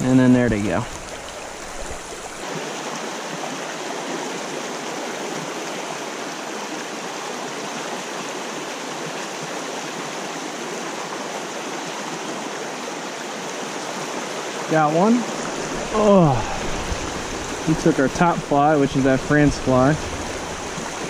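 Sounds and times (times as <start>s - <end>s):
small stream running: 0.0s - 21.0s.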